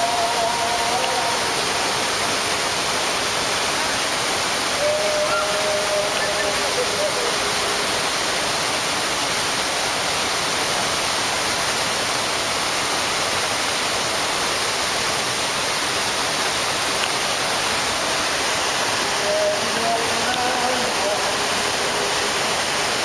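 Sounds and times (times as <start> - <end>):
fountain water splashing on paving: 0.0 - 23.0.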